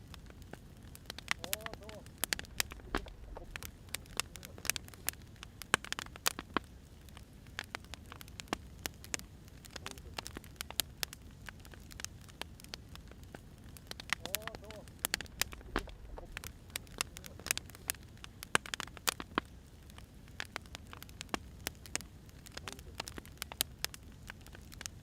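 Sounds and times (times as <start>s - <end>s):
faint steady hiss: 0.0s - 25.0s
wood fire crackling: 0.0s - 25.0s.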